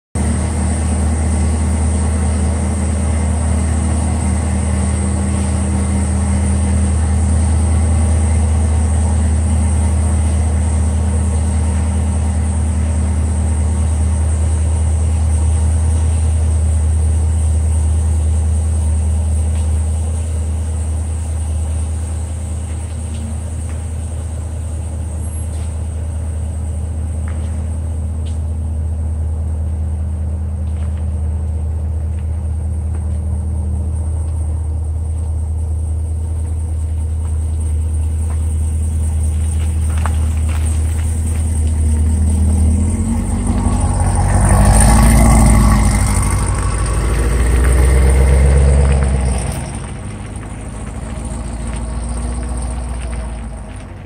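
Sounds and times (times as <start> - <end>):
car engine idling: 0.1 - 54.0.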